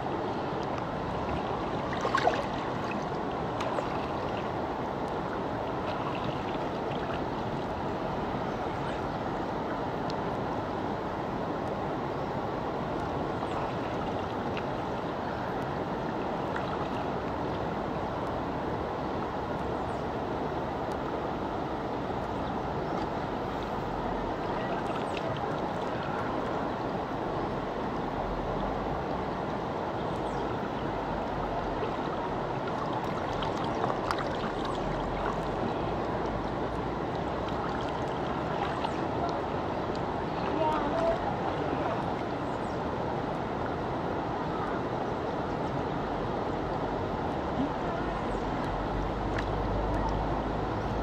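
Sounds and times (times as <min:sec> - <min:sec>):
river water flowing: 0:00.0 - 0:51.0.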